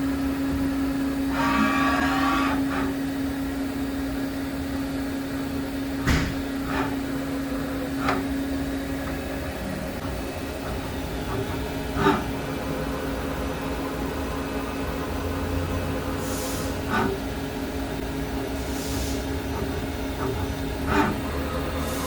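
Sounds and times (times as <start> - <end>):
machining centre humming: 0.0 - 22.0.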